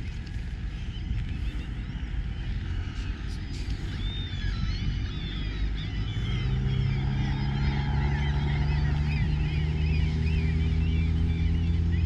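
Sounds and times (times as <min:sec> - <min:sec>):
birds chirping and calling: 0:00.0 - 0:12.0
low engine hum: 0:00.0 - 0:12.0.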